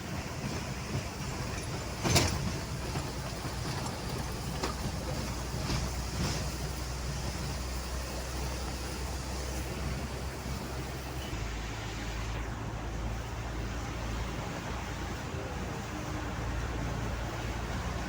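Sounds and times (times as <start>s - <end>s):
vehicle engine drone: 0.0s - 18.0s
wet tyre noise: 0.0s - 18.0s.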